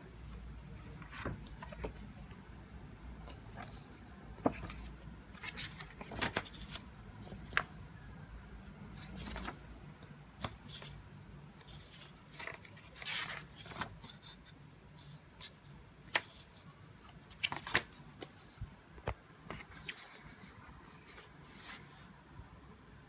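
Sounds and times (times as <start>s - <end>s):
book pages rustling: 0.1s - 2.4s, 3.2s - 8.1s, 8.9s - 9.7s, 10.4s - 11.0s, 11.6s - 22.1s.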